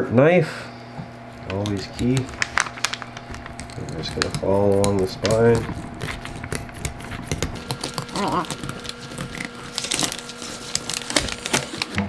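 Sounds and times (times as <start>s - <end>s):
knife crunching through fish bones: 1.2s - 12.0s.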